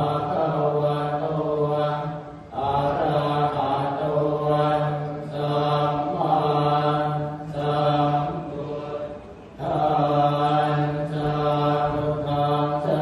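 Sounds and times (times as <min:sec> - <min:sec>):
monotone buddhist chanting: 0:00.0 - 0:13.0.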